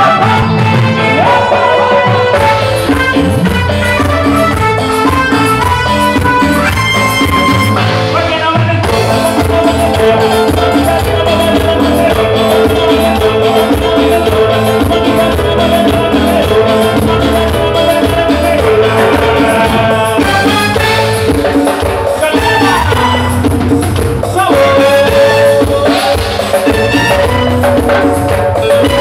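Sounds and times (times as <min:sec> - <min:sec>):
latin dance band playing: 0:00.0 - 0:29.0.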